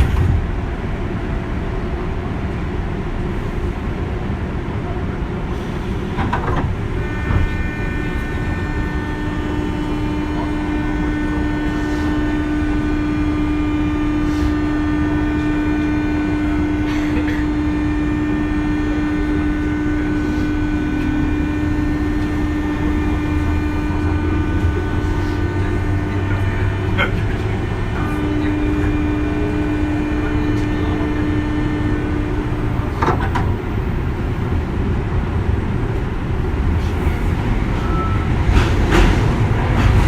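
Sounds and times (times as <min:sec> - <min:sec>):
electric train motor hum: 0:00.0 - 0:40.0.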